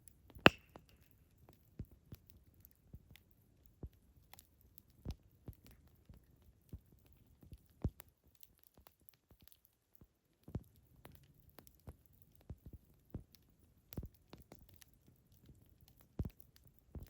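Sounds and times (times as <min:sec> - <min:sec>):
campfire wood crackling: 0:00.0 - 0:17.0.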